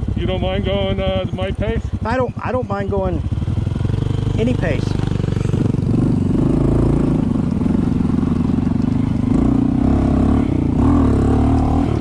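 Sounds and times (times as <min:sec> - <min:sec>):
motorcycle engine running: 0:00.0 - 0:12.0
second motorcycle riding: 0:00.0 - 0:12.0.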